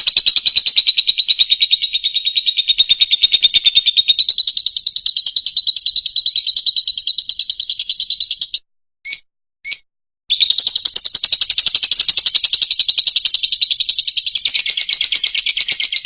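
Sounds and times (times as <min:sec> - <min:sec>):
lovebird rapid trill: 0:00.0 - 0:16.0.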